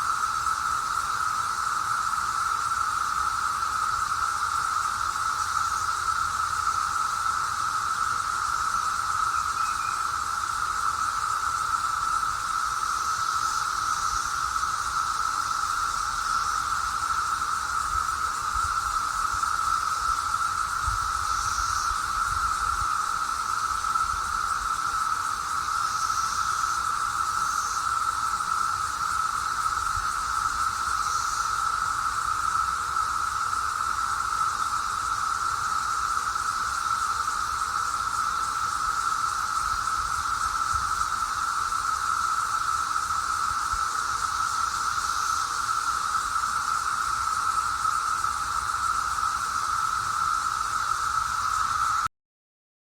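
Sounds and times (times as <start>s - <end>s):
cicadas droning: 0.0s - 52.1s.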